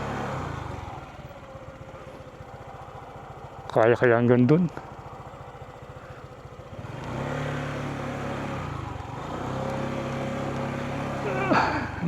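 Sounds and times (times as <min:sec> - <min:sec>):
motorcycle engine pulling away: 0:00.0 - 0:12.0.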